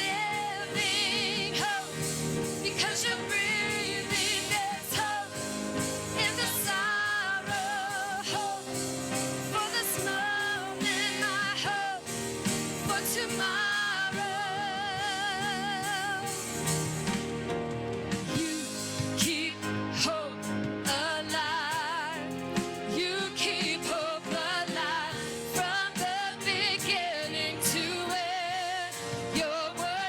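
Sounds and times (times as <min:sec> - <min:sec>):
person singing with vibrato: 0:00.0 - 0:17.1, 0:18.2 - 0:30.0
band playing sustained chords: 0:00.0 - 0:30.0.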